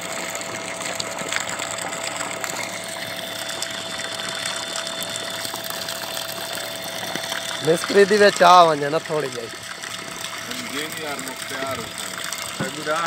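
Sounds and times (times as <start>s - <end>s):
water gushing onto sand: 0.0s - 13.0s
water pump engine running: 0.0s - 13.0s.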